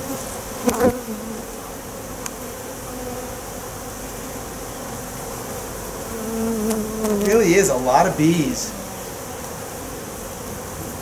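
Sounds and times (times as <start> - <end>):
honey bees humming: 0.0 - 11.0.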